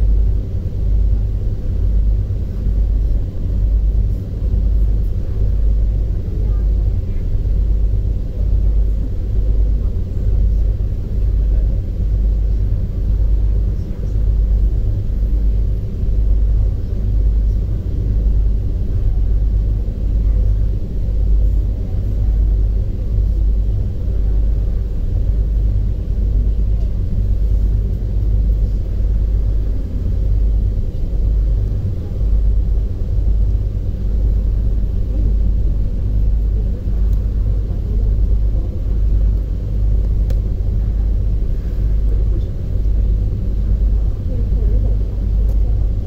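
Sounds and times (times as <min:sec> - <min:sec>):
ferry low rumble: 0:00.0 - 0:46.0.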